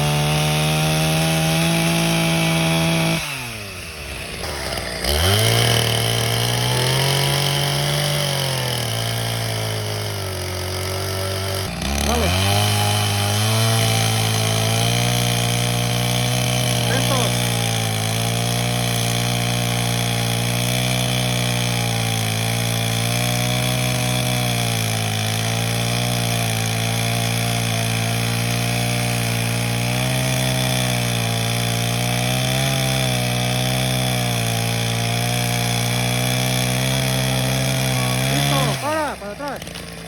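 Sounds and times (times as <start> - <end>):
chainsaw engine running: 0.0 - 40.0.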